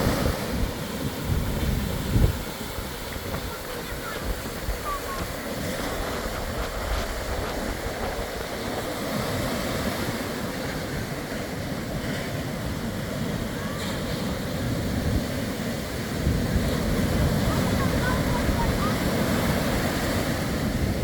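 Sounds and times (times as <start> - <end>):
ocean surf on a beach: 0.0 - 21.0
wind buffeting the microphone: 0.0 - 21.0.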